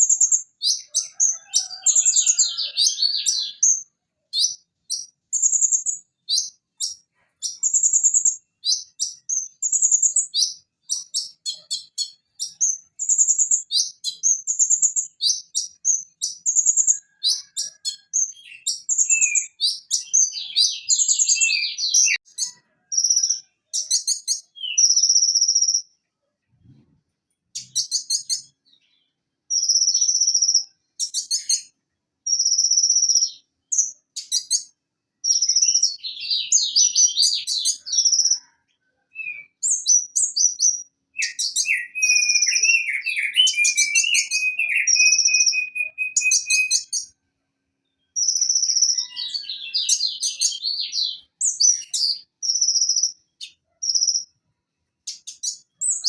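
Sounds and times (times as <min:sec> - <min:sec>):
bird singing chirps and trills: 0:00.0 - 0:25.9, 0:27.6 - 0:47.2, 0:47.8 - 0:54.4, 0:55.0 - 0:56.0.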